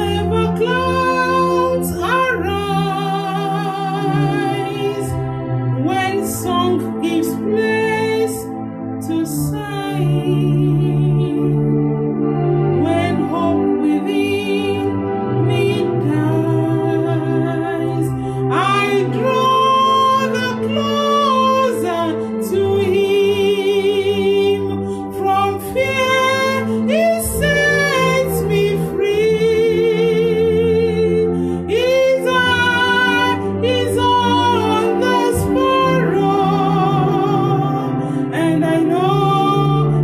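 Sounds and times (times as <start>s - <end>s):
woman singing: 0.0s - 11.7s, 12.8s - 40.0s
electronic keyboard chords: 0.0s - 40.0s.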